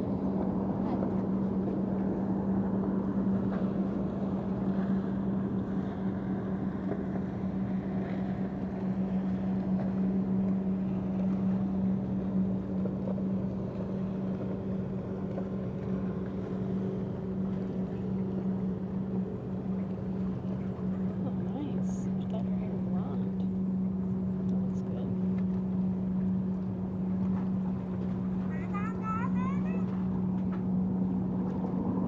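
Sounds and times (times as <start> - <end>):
dull background rumble: 0.0 - 32.0
steady engine drone: 0.0 - 32.0.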